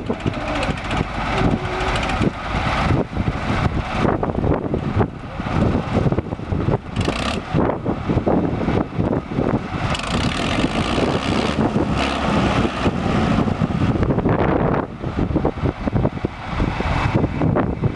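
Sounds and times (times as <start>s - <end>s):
tractor engine running: 0.0s - 17.9s
wind gusting on microphone: 0.0s - 17.9s.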